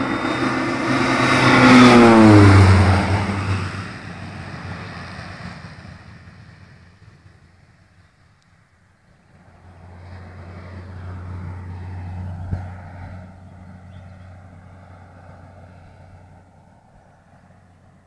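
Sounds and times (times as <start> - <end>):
propeller plane flyby: 0.0 - 18.0.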